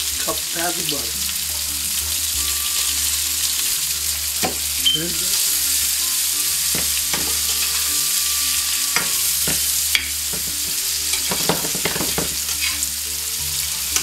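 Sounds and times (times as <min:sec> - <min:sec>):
food sizzling in a pan: 0:00.0 - 0:14.0
utensil stirring against pan: 0:00.0 - 0:14.0.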